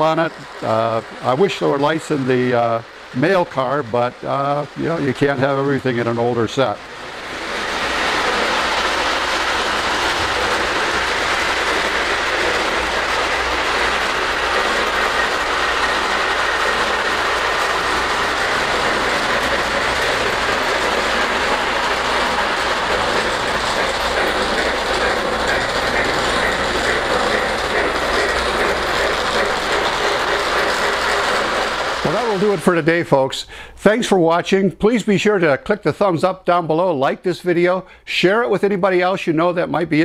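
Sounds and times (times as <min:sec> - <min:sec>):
model train wheels clattering: 0:00.0 - 0:34.5.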